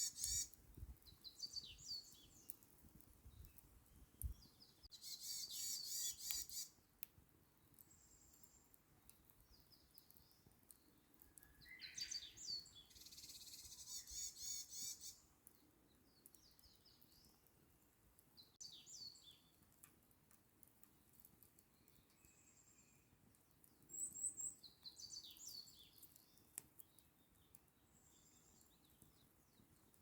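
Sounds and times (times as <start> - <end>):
campfire crackling: 0.0 - 4.9, 5.8 - 13.1, 14.7 - 22.4, 23.0 - 30.0
songbirds singing and chirping: 0.0 - 6.9, 7.5 - 19.8, 20.8 - 30.0.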